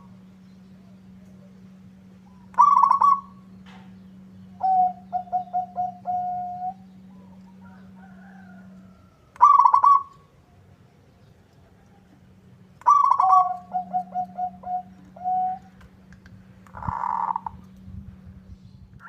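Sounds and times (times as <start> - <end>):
dove cooing: 0.0 - 10.9, 11.6 - 15.9, 16.7 - 17.7
dove rattling call: 0.0 - 16.0, 16.6 - 17.8
faint steady hum: 0.0 - 19.0.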